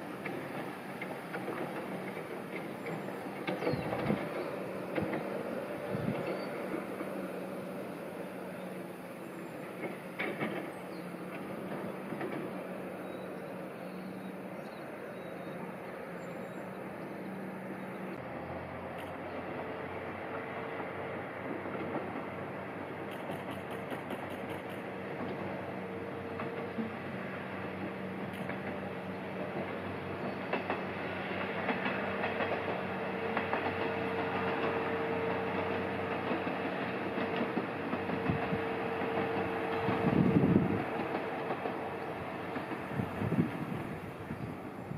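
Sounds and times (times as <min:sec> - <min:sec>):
distant diesel railcars running: 0:00.0 - 0:44.9.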